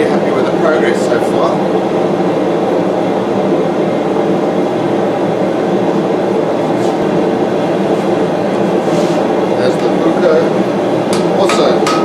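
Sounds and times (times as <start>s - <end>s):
gas forge roaring: 0.0s - 12.0s.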